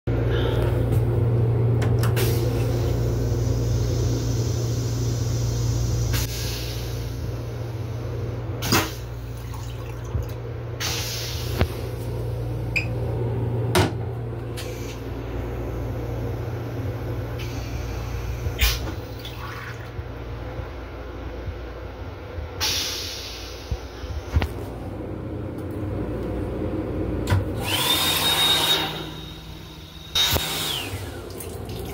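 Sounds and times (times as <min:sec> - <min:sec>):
low equipment hum: 0:00.1 - 0:31.9.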